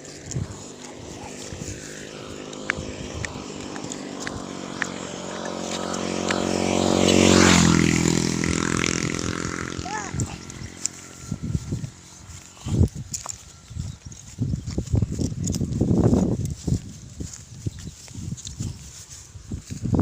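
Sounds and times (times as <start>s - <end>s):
vehicle passing by: 0.0s - 19.9s.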